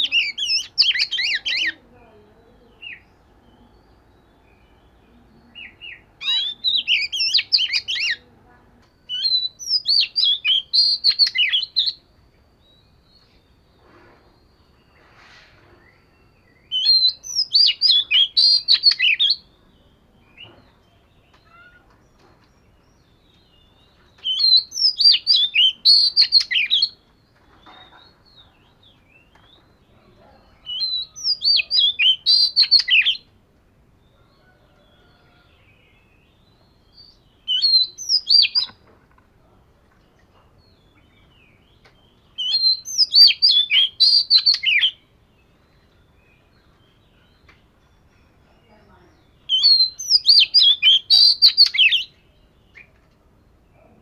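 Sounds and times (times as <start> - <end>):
bird singing rapid varied notes: 0.0 - 33.3, 36.0 - 38.8, 40.2 - 54.0.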